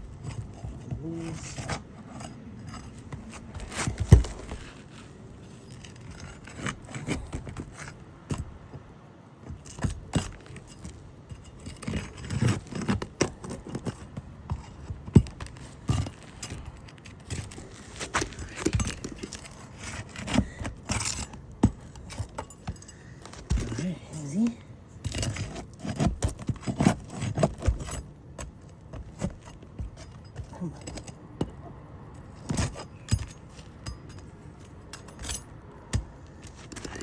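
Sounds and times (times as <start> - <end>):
metal tool scraping under shingles: 0.0 - 8.5, 9.5 - 31.5, 32.2 - 37.0.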